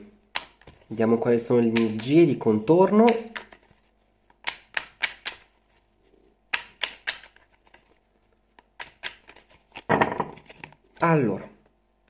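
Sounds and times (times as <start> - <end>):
cards being shuffled: 0.3 - 1.0, 1.6 - 11.2.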